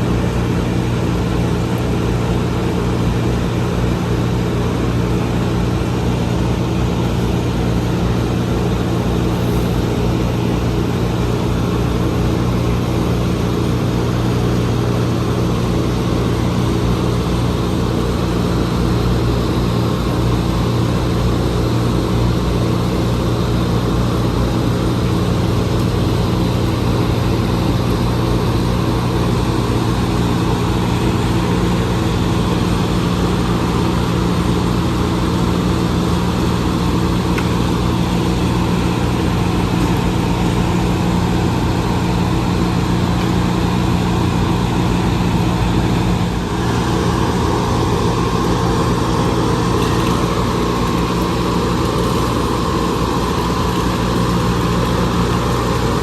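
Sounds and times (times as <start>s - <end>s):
heavy engine low drone: 0.0s - 56.0s.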